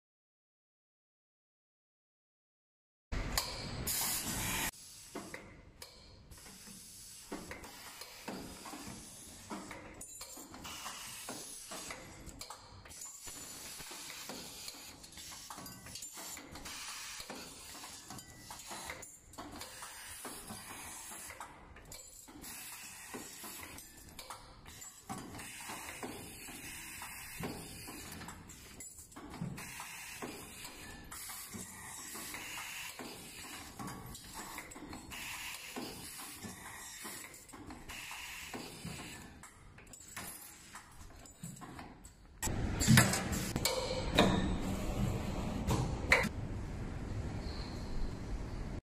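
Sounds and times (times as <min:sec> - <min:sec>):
machine clicks and clacks: 0:05.2 - 0:46.3.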